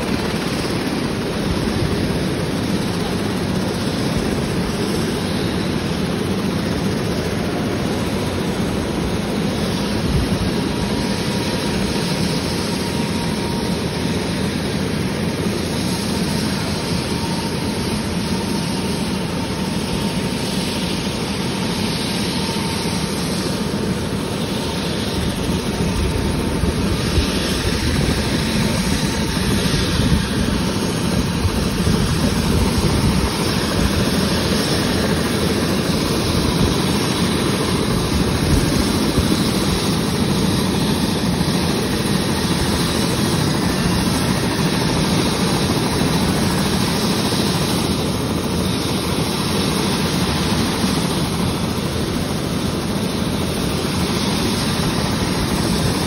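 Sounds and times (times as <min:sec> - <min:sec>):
helicopter turbine idling: 0:00.0 - 0:56.0
thin turbine whine: 0:00.0 - 0:56.0.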